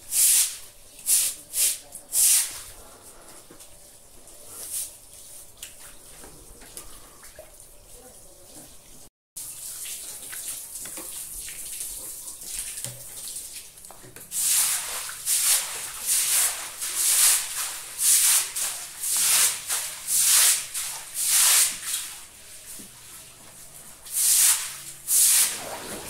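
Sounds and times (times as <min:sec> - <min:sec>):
broom scrubbing wet concrete: 0:00.0 - 0:03.5, 0:04.3 - 0:07.2, 0:09.8 - 0:26.0
water running from a hose: 0:00.0 - 0:26.0.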